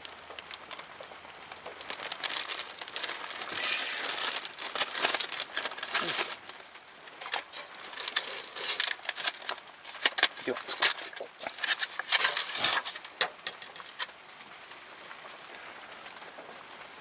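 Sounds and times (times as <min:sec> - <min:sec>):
plastic packaging crinkling: 0:00.0 - 0:14.1.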